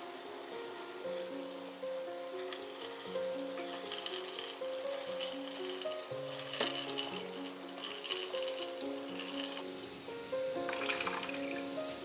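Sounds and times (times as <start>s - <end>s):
background music long notes: 0.0s - 12.0s
coconut solids sizzling in oil: 0.0s - 12.0s.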